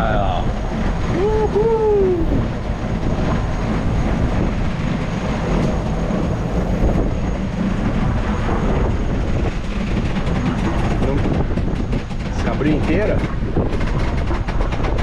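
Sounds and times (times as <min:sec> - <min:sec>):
low rumble of sailboat: 0:00.0 - 0:15.0.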